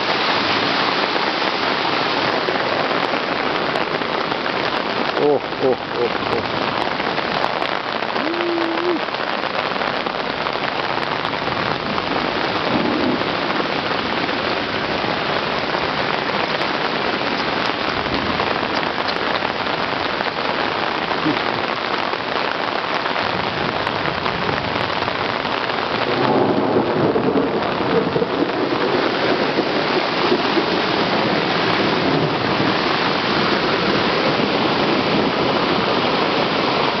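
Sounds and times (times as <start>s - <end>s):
torrential rain pouring: 0.0s - 37.0s.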